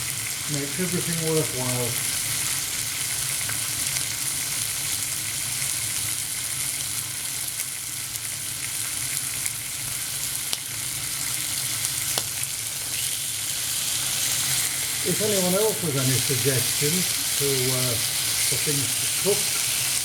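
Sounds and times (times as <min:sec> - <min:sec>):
bacon sizzling in a frying pan: 0:00.0 - 0:20.0.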